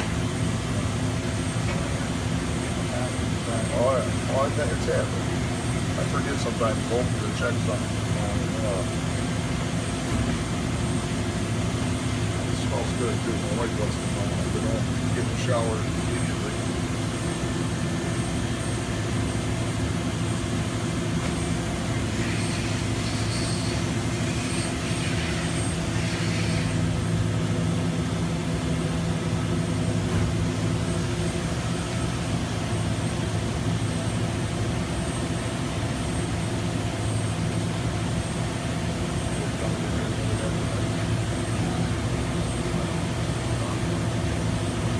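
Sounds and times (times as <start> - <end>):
machine humming: 0.0 - 44.9.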